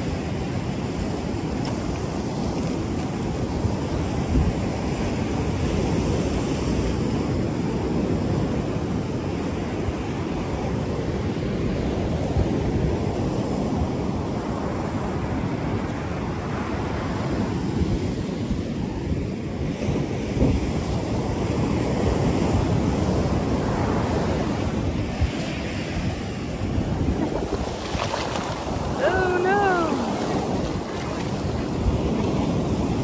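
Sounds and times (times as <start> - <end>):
ocean surf on beach: 0.0 - 33.0
wind rumble on microphone: 0.0 - 33.0.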